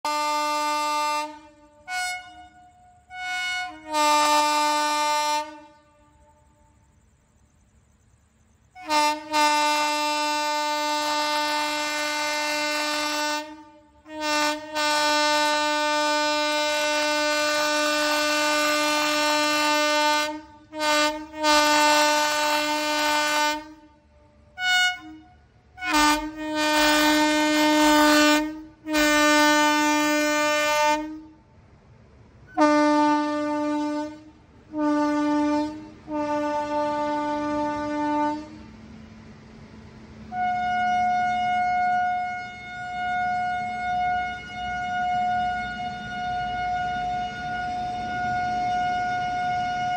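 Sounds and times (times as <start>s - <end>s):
locomotive horn blasts: 0.0s - 6.7s, 8.8s - 31.6s, 32.5s - 38.8s, 40.3s - 49.9s.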